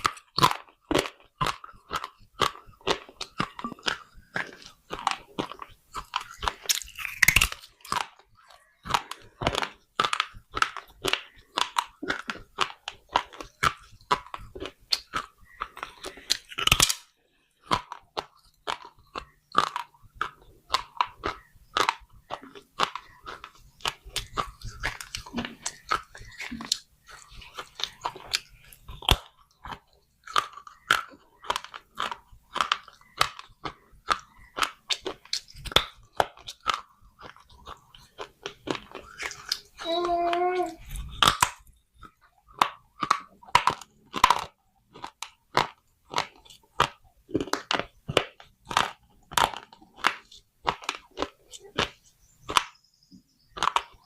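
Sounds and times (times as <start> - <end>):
clay pot crunching when chewed: 0.0 - 54.0.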